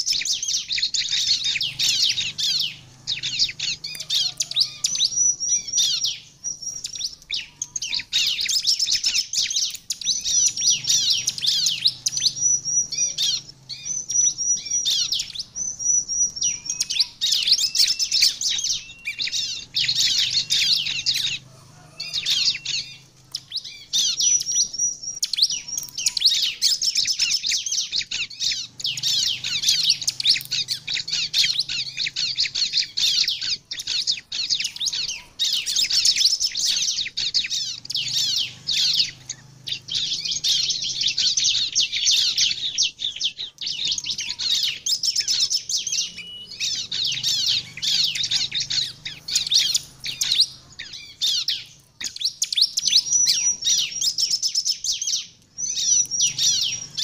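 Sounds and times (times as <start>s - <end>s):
bird chattering song: 0.0s - 57.0s.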